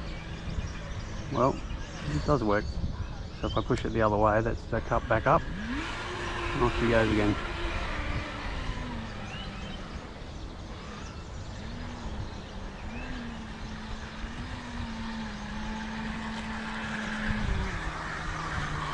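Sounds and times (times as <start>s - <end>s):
model boat motor: 0.0s - 18.9s.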